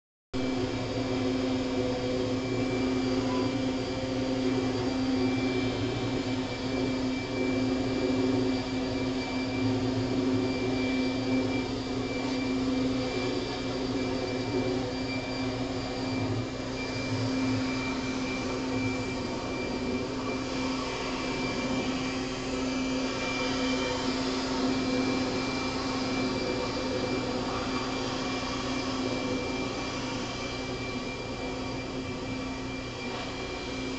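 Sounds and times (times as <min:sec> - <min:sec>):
electric leaf blower running: 0:00.4 - 0:33.9.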